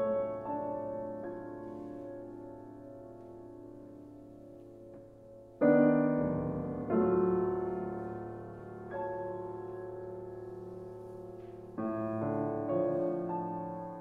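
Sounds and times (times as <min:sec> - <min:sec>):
grand piano chords: 0:00.0 - 0:14.0.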